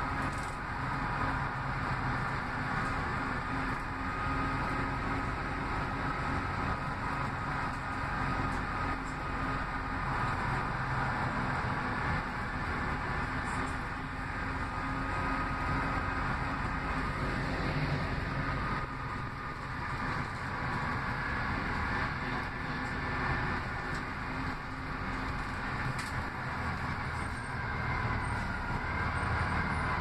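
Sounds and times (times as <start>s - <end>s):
bus engine drone: 0.0s - 30.0s
road noise: 0.0s - 30.0s.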